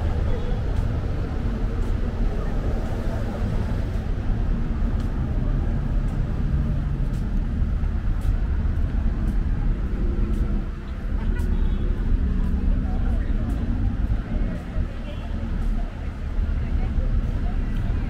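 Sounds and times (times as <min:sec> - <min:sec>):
indistinct crowd chatter: 0:00.0 - 0:18.0
steady traffic noise: 0:00.0 - 0:18.0.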